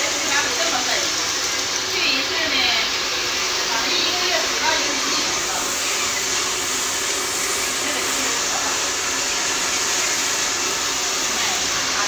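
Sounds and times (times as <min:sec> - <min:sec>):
water spraying and splashing: 0:00.0 - 0:12.0.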